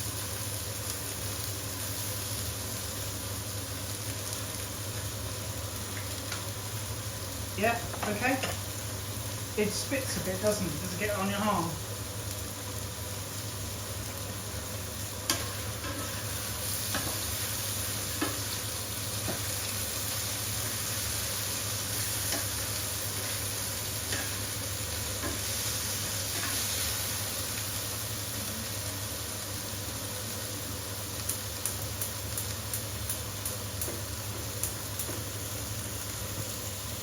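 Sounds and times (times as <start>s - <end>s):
chicken sizzling in a frying pan: 0.0s - 37.0s.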